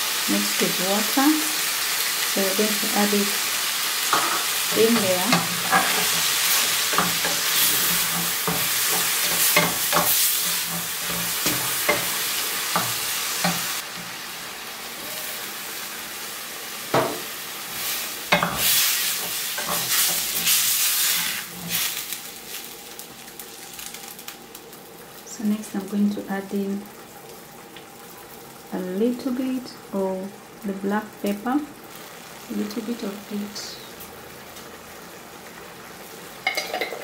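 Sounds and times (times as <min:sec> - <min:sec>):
meat sizzling in frying pan: 0:00.0 - 0:37.0.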